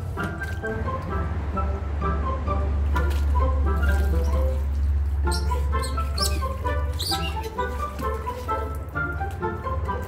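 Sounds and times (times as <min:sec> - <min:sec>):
bouncy melody over low drone: 0:00.0 - 0:10.0.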